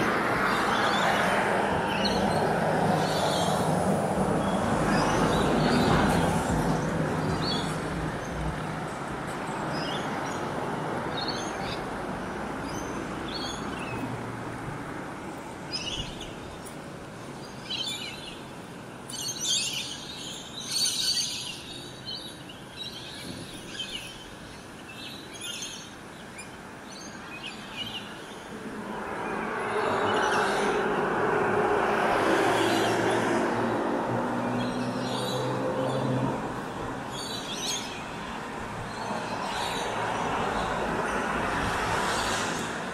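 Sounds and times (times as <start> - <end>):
birds chirping: 0.0 - 42.6
traffic hum: 0.0 - 42.9.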